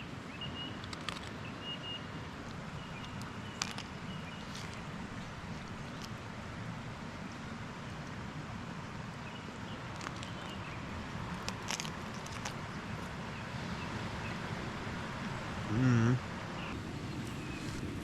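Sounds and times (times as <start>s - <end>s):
mountain stream rushing: 2.2s - 18.0s.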